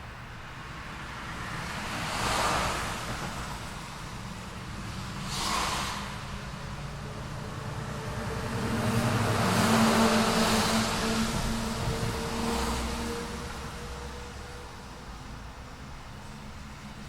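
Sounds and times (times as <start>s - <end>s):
low rumble of distant engines: 0.0s - 17.0s
vehicles passing close by: 0.0s - 17.0s.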